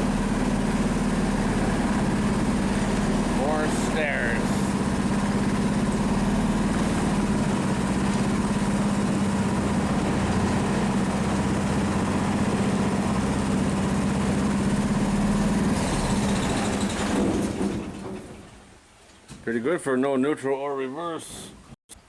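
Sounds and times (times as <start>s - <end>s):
boat engine running: 0.0s - 18.8s.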